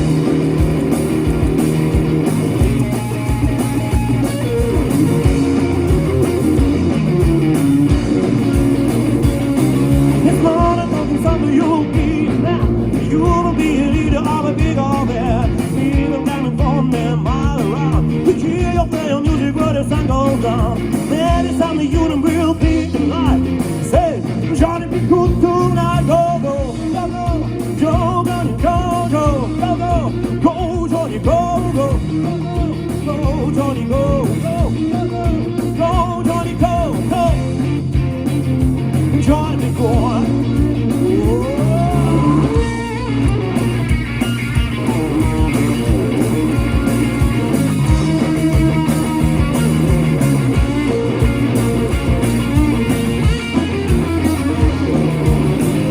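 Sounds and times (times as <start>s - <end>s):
bass and drums: 0.0s - 55.9s
electric guitar lead with bends: 0.0s - 55.9s.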